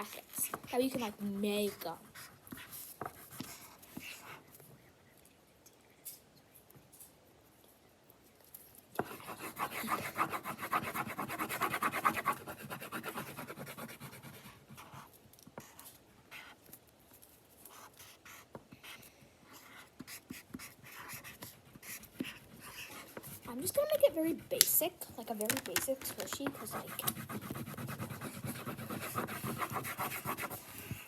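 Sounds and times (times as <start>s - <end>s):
marker scribbling on paper: 0.0s - 4.5s, 9.0s - 16.6s, 17.7s - 31.0s.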